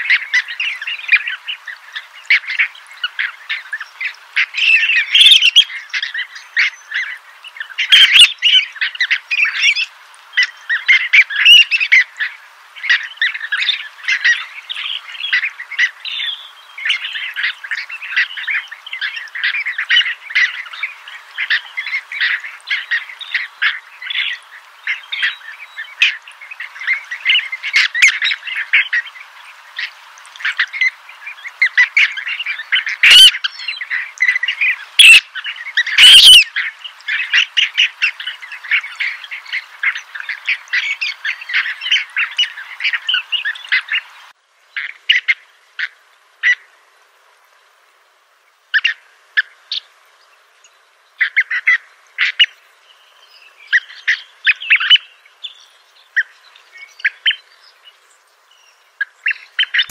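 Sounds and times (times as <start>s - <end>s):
flock of birds chattering: 0.0s - 46.7s, 48.7s - 59.9s.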